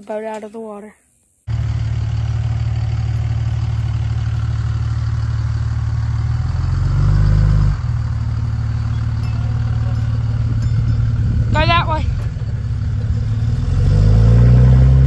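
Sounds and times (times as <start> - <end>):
vehicle engine low hum: 1.5 - 15.0.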